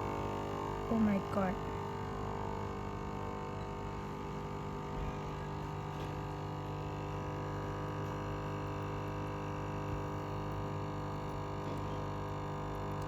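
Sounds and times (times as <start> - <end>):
coffee machine pump humming: 0.0 - 13.0.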